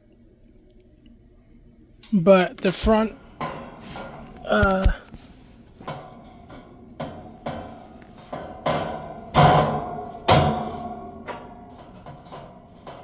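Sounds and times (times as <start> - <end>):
metal fan parts knocking and clanking: 2.0 - 13.0.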